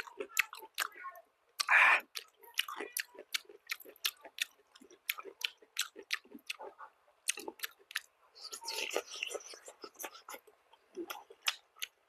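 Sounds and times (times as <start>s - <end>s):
mouth smacking while chewing: 1.6s - 12.0s.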